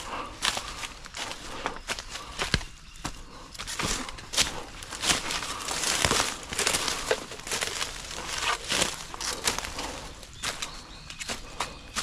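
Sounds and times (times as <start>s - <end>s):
footsteps through dry leaves: 0.0s - 12.0s
dry stalks cracking: 0.1s - 12.0s.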